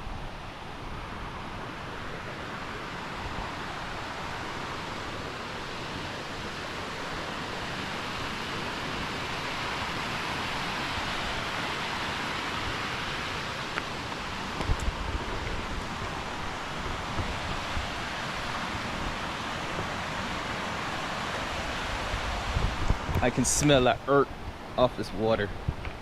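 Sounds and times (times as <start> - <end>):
water rushing down a creek: 0.0 - 26.0.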